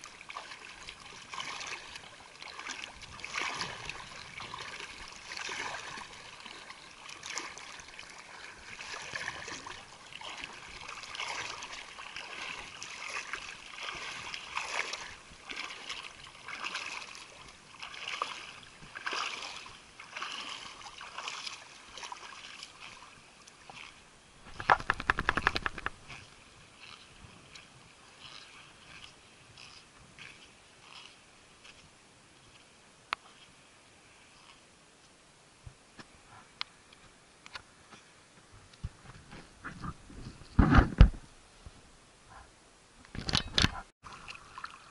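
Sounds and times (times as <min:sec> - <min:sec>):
wading through shallow water: 0:00.0 - 0:40.6, 0:43.8 - 0:44.9.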